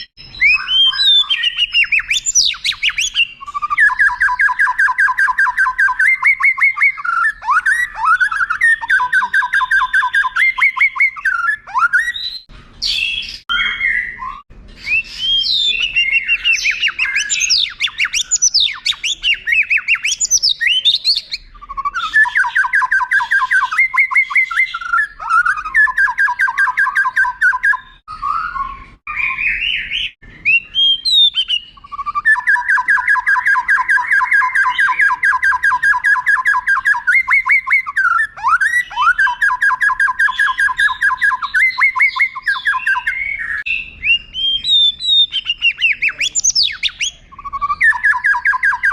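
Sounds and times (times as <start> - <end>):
bird singing trills and whistles: 0.0 - 48.9.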